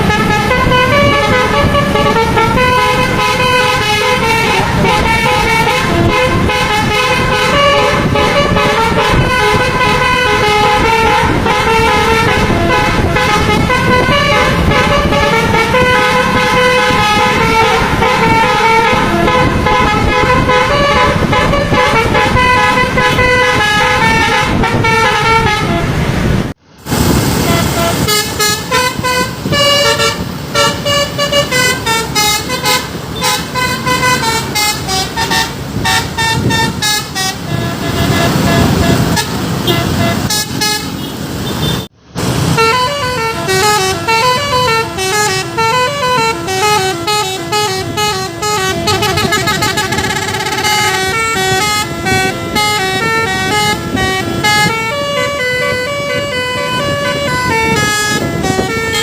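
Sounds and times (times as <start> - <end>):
multi-tone musical bus horn: 0.0 - 26.5, 27.1 - 59.0.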